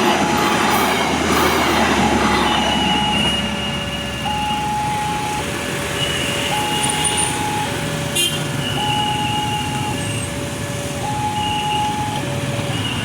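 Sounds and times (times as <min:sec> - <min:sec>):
passing traffic rumble: 0:00.0 - 0:13.0
two-tone level crossing alarm: 0:00.0 - 0:13.0.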